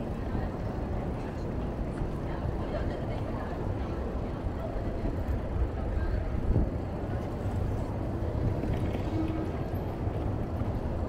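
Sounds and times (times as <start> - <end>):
rumble of street traffic: 0.0 - 11.0.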